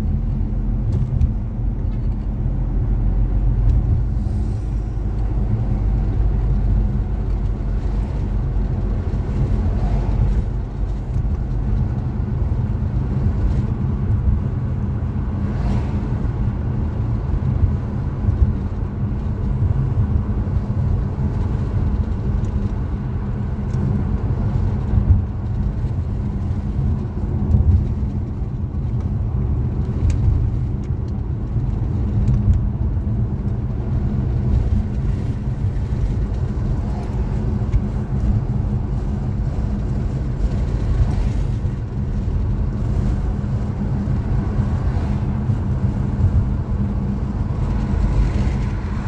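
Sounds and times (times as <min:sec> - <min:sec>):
car road and engine noise: 0:00.0 - 0:49.0.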